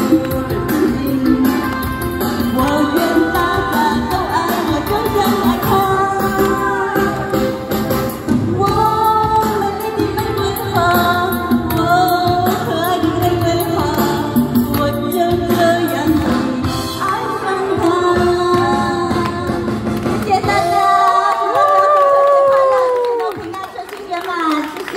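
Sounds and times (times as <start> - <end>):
woman singing with vibrato: 0.0 - 7.7, 8.4 - 23.2
instrumental accompaniment with beat: 0.0 - 21.0.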